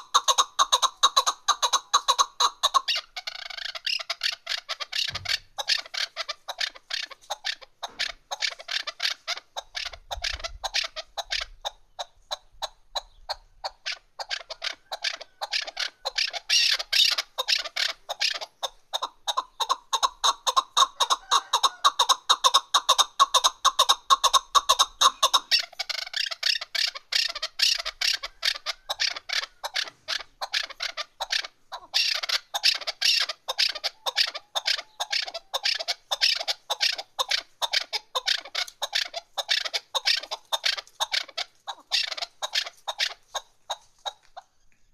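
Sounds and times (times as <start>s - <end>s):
partridge clucking calls: 0.0s - 44.9s.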